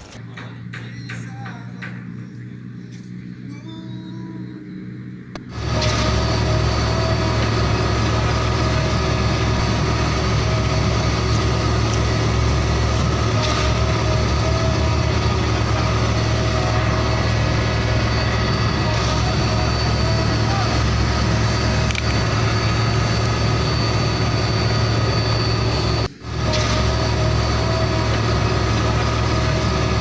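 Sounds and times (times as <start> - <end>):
truck engine idling: 0.0 - 3.4, 4.6 - 30.0.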